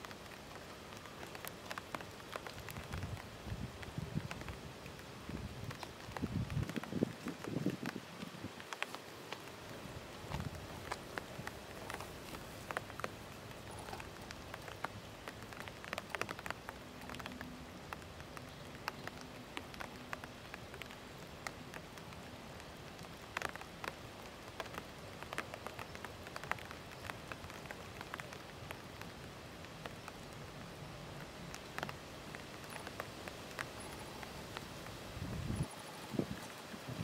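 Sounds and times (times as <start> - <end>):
light crackles and ticks: 0.0 - 37.0
steady hiss: 0.0 - 37.0.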